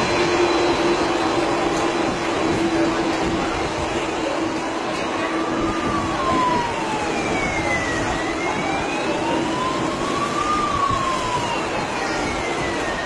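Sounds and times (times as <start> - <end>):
higher siren tone: 0.0 - 13.0
loud rushing noise: 0.0 - 13.0
wailing siren: 0.0 - 13.0.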